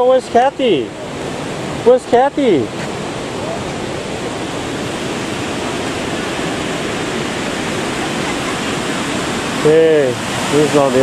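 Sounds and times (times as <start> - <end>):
waterfall and rapids rushing: 0.0 - 11.0.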